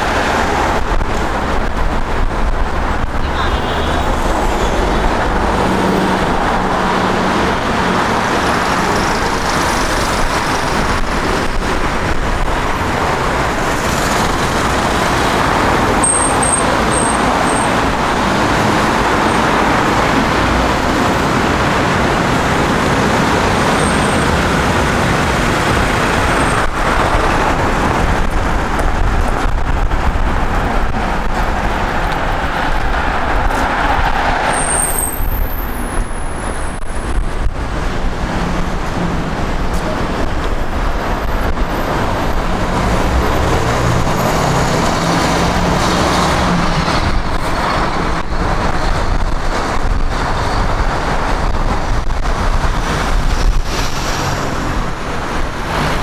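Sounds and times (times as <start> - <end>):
city road traffic: 0.0 - 56.0.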